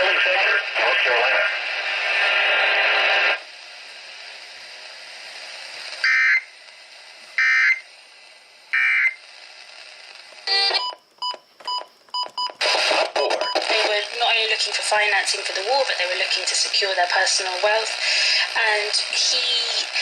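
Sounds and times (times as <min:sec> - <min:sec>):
faint broadcast hiss: 0:00.0 - 0:20.0.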